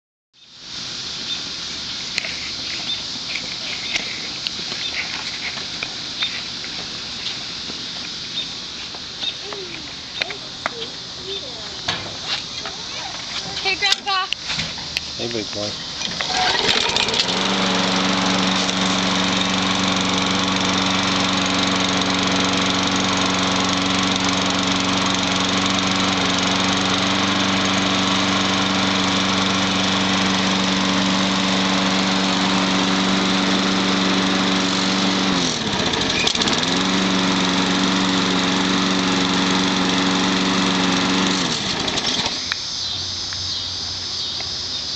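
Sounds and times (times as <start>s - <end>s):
lawn mower engine running: 0.6s - 44.8s.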